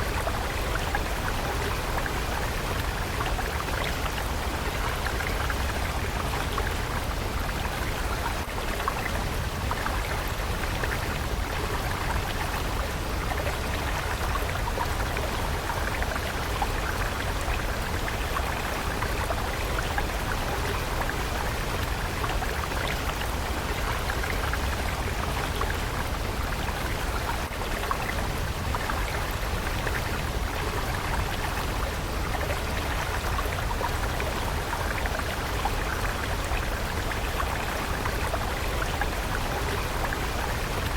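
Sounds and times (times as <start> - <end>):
water stream babbling: 0.0 - 40.9.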